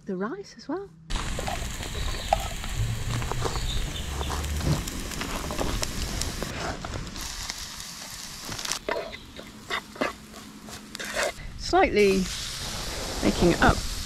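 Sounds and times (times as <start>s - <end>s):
onions sizzling in a frying pan: 1.1s - 14.0s.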